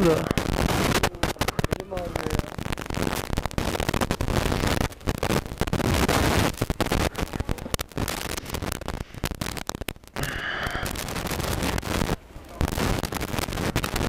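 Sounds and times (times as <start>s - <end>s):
motorcycle engines crackling: 0.0s - 14.0s.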